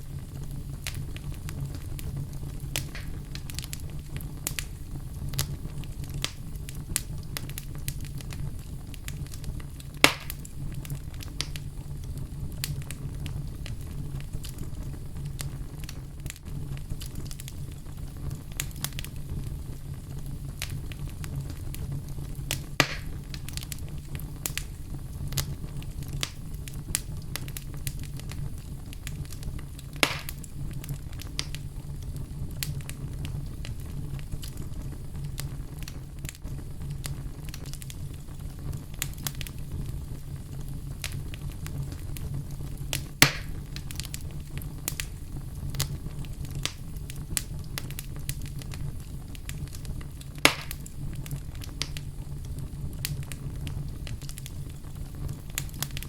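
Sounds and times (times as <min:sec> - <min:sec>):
fire crackles and pops: 0:00.0 - 0:56.0
low rumble of fire: 0:00.0 - 0:56.0.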